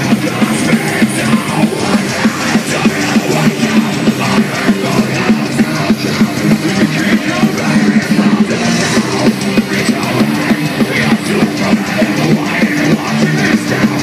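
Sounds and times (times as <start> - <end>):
distorted guitars: 0.0 - 14.0
driving drum beat: 0.0 - 14.0
heavy metal band playing live: 0.0 - 14.0.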